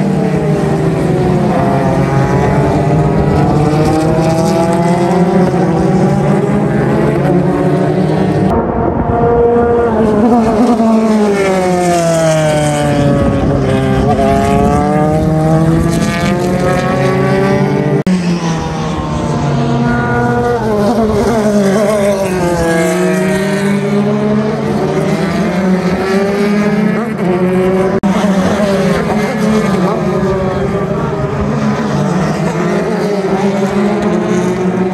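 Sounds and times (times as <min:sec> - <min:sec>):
race car engines shifting gears: 0:00.0 - 0:34.9.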